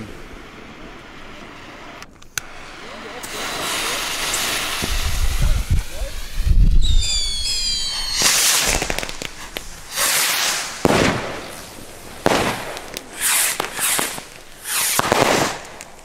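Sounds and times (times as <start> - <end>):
firework rocket whistling: 0.0 - 15.9
firework bangs and crackling: 0.0 - 16.0.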